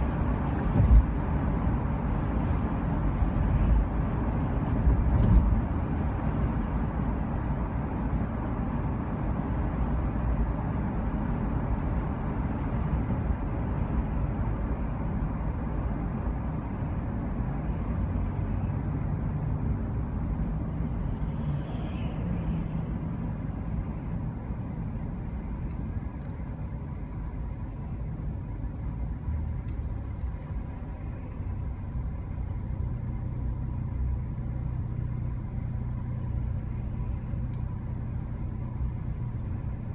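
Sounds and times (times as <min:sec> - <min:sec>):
faint engine hum: 0:00.0 - 0:39.9
vehicle road and engine rumble: 0:00.0 - 0:39.9.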